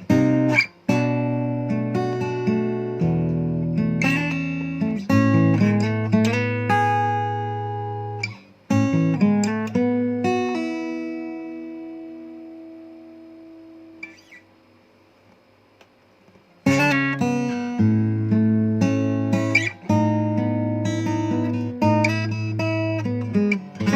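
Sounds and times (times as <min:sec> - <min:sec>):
acoustic guitar playing: 0:00.0 - 0:14.6, 0:16.3 - 0:23.9.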